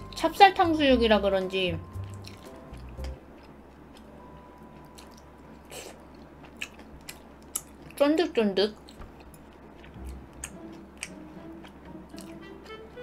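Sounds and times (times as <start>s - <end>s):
close-miked chewing: 2.0s - 13.0s.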